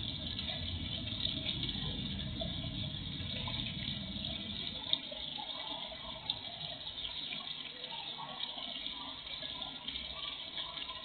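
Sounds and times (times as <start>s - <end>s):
fountain splashing into pond: 0.0s - 11.0s.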